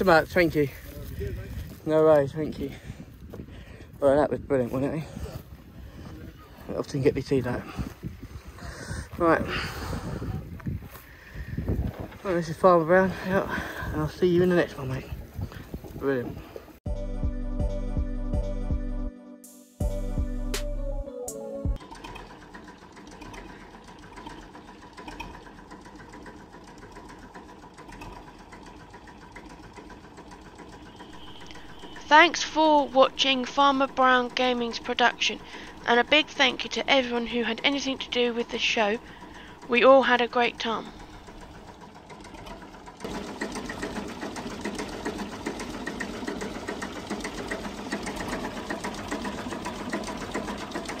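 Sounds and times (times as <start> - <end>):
engine ticking: 0.0 - 16.8, 21.8 - 51.0.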